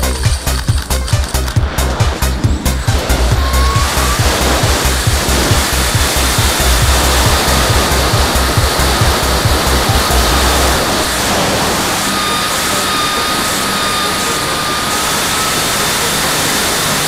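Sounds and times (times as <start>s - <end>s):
wind buffeting microphone: 0.7s - 17.0s
steady high tone: 1.4s - 17.0s.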